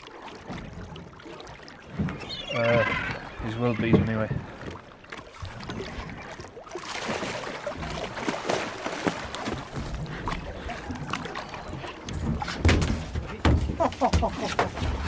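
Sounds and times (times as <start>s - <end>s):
water splashing: 0.0s - 15.0s.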